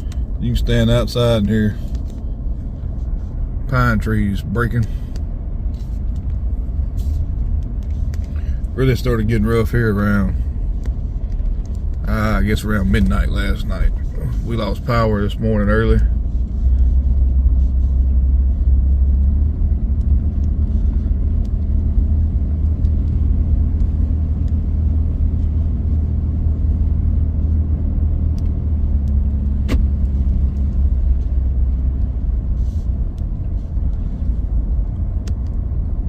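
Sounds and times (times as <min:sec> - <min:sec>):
vehicle driving rumble: 0:00.0 - 0:36.0.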